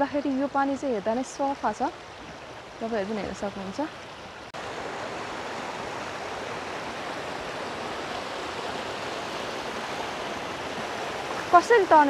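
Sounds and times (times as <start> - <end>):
river water rushing over stones: 0.0 - 12.0.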